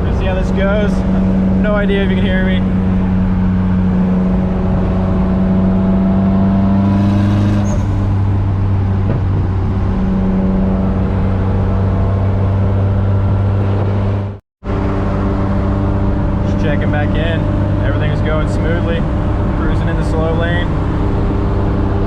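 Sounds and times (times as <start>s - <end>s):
car engine droning at cruise: 0.0s - 22.0s.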